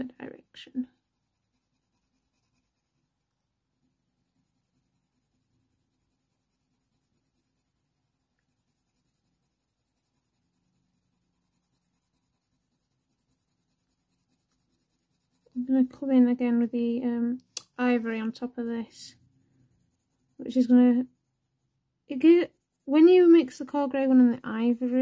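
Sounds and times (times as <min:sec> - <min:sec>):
pencil scratching on paper: 0:00.0 - 0:17.2, 0:17.8 - 0:25.0.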